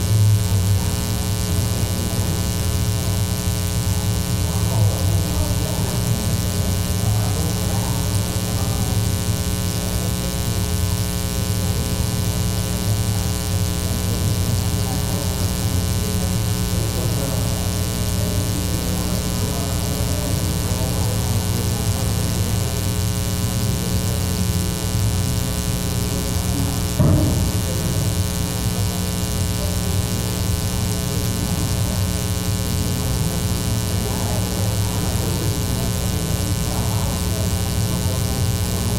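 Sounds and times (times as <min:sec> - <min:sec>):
electrical mains hum: 0:00.0 - 0:38.9
faint indistinct voices: 0:00.0 - 0:38.9.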